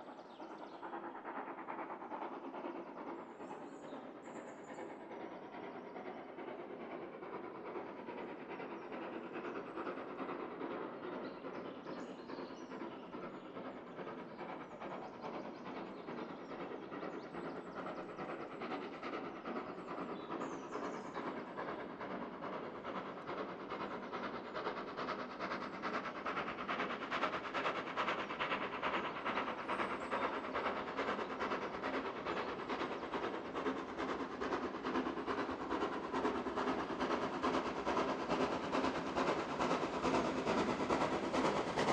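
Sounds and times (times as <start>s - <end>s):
steam train rumble and clatter: 0.0s - 41.9s.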